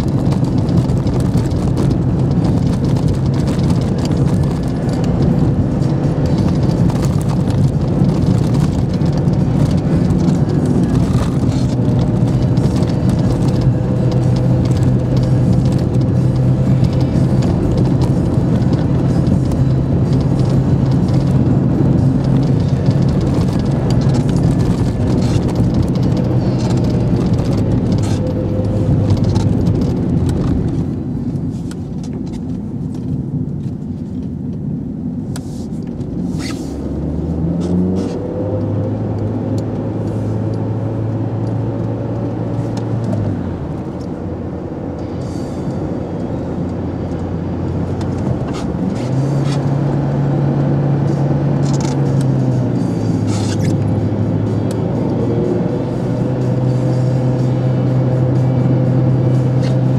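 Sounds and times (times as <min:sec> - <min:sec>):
car engine running: 0:00.0 - 0:59.9
tyre and road noise: 0:00.0 - 0:59.9.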